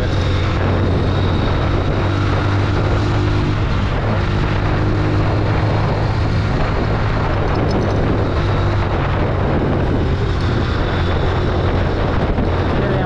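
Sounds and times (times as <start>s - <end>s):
motorcycle engine running steadily: 0.0s - 13.0s
wind and road noise: 0.0s - 13.0s.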